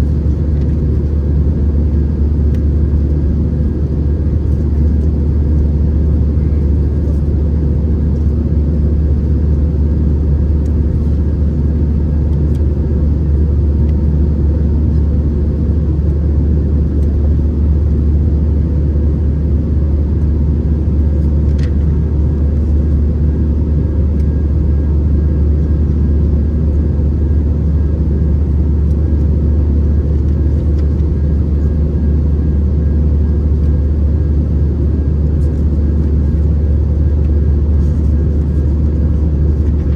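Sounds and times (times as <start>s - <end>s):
airplane cabin rumble: 0.0s - 39.9s
faint steady whines: 0.0s - 39.9s.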